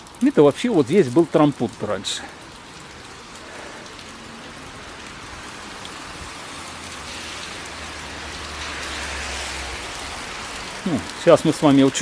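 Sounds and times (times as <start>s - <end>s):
rain on wet paving stones: 0.0s - 12.0s.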